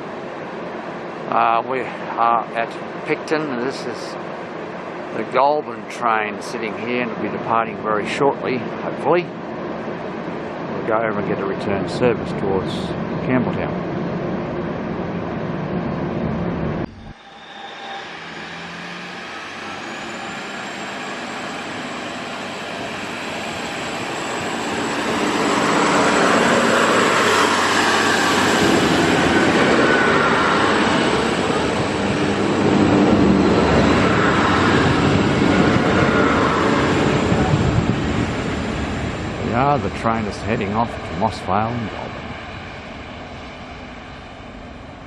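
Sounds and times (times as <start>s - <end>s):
faint high whine: 0.0s - 45.0s
train engine and wheel noise: 0.0s - 45.0s.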